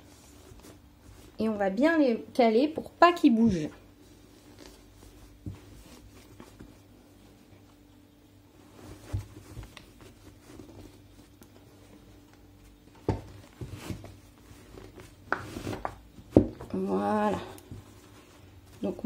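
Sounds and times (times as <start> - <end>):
cloth towels rustling: 0.0 - 2.2, 3.4 - 19.0.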